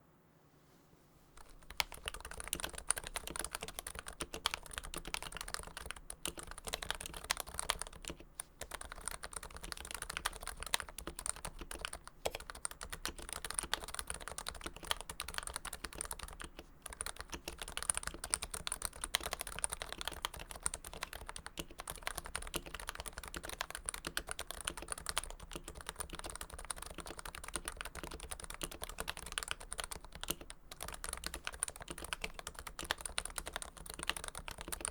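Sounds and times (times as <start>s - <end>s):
fast keyboard typing: 1.4s - 34.9s.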